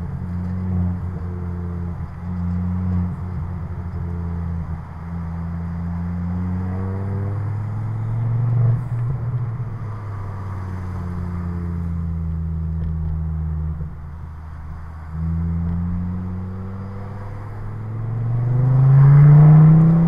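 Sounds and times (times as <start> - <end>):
car engine and exhaust from inside: 0.0 - 20.0.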